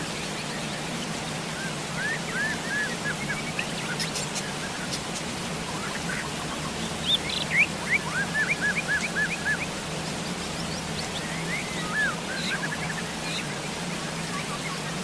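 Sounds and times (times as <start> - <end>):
bird chirping: 0.0 - 14.8
steady rain falling: 0.0 - 15.0.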